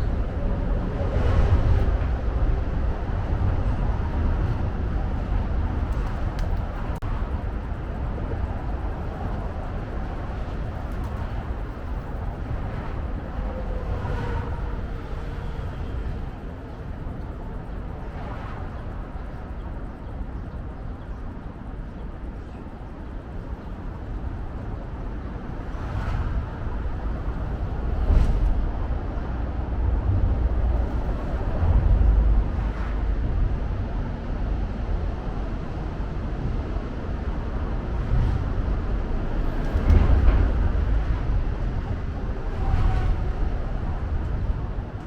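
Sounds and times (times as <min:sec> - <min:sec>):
city traffic rumble: 0:00.0 - 0:45.0.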